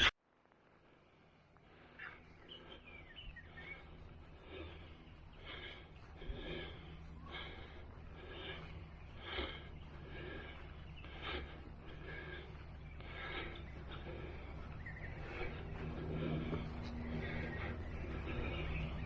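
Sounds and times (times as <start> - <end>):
person breathing heavily: 0.6 - 19.0.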